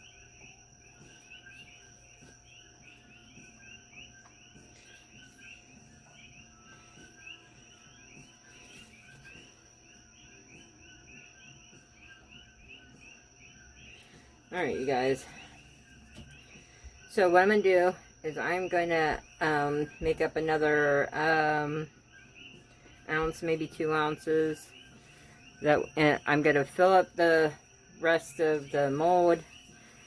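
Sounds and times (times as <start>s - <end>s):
rapid insect chirping: 0.0s - 30.0s.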